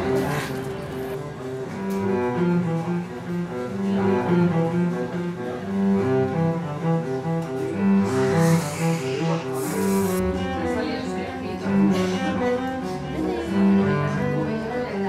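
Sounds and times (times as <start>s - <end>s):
low bowed strings melody: 0.0s - 15.0s.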